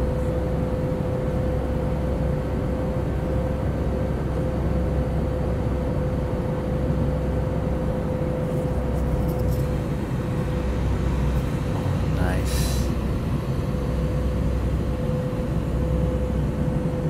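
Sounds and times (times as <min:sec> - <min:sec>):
jet cabin drone: 0:00.0 - 0:17.0
steady hum: 0:00.0 - 0:17.0.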